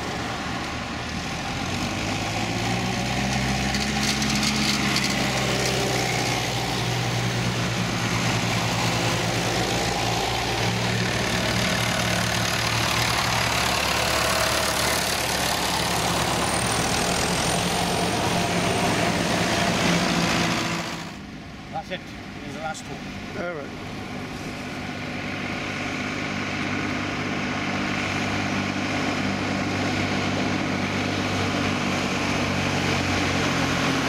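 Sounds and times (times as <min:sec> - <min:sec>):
tractor engines driving past: 0:00.0 - 0:34.0.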